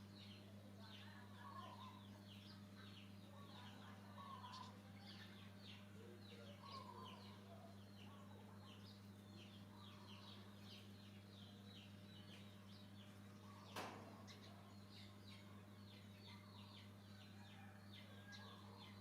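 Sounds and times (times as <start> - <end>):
high chirping animal calls: 0.2 - 19.0.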